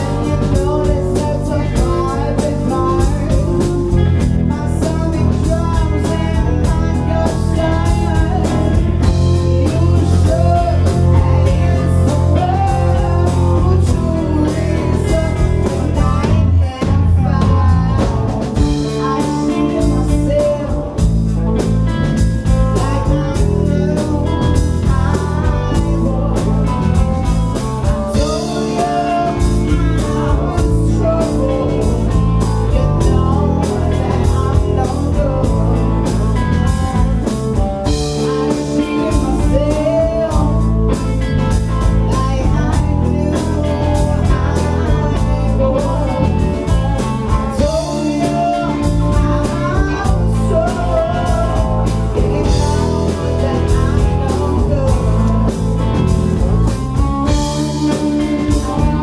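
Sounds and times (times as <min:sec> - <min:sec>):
bass guitar: 0:00.0 - 0:59.0
drum kit beat: 0:00.0 - 0:59.0
electric guitars: 0:00.0 - 0:59.0
person singing: 0:00.0 - 0:59.0.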